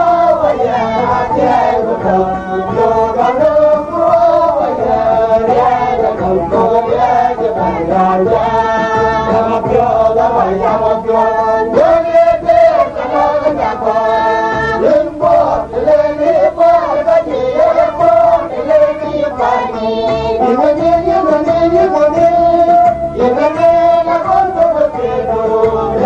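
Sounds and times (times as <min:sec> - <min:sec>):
steady beat: 0:00.0 - 0:26.0
voices singing gospel song: 0:00.0 - 0:26.0.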